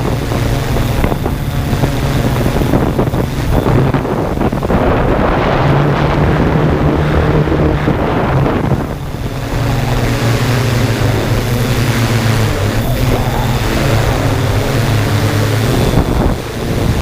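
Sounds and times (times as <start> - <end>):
drone propellers humming: 0.0 - 17.0
wind noise on microphone: 0.0 - 17.0.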